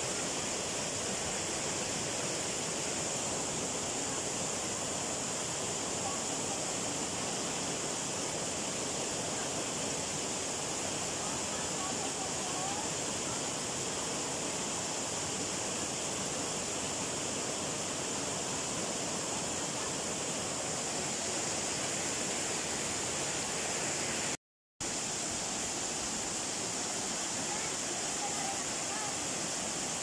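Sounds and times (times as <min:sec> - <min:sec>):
waterfall rushing over rocks: 0:00.0 - 0:30.0.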